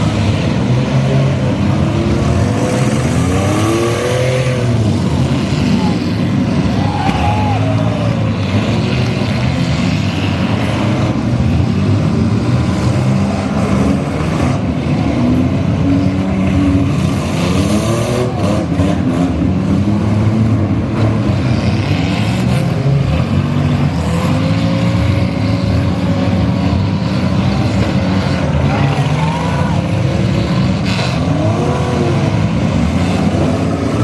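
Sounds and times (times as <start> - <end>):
engines revving: 0.0 - 34.0.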